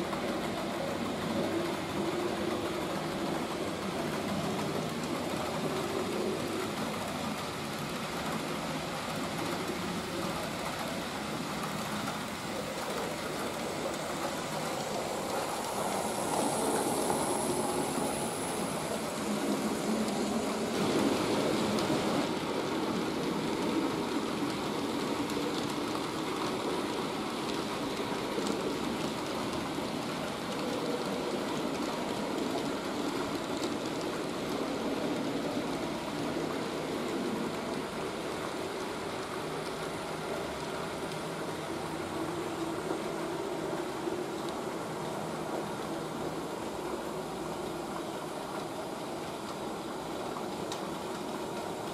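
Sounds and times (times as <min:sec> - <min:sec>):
model train wheels rumbling on rail: 0:00.0 - 0:51.9.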